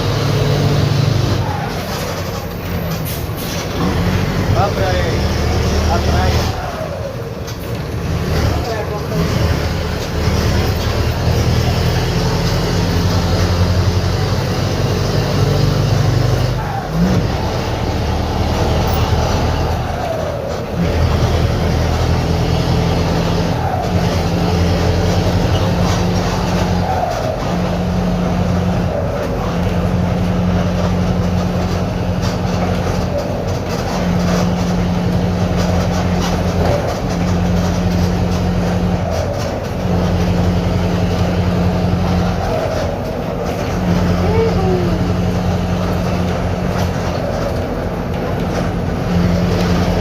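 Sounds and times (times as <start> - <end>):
bus diesel engine with leaking exhaust: 0.0 - 50.0.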